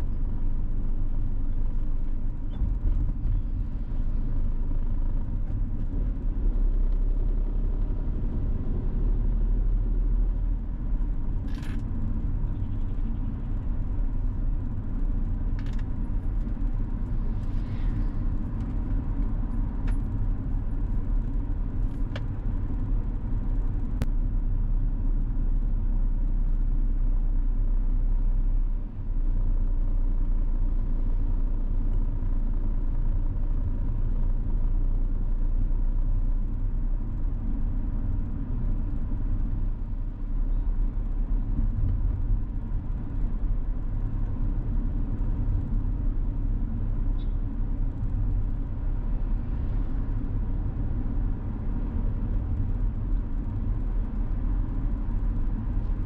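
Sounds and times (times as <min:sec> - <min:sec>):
car driving rumble: 0:00.0 - 0:56.0.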